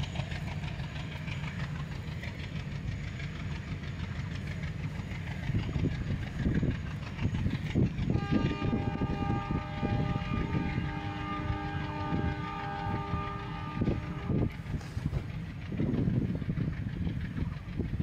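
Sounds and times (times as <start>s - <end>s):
low train rumble: 0.0s - 18.0s
train wheels clickety-clack: 0.0s - 18.0s.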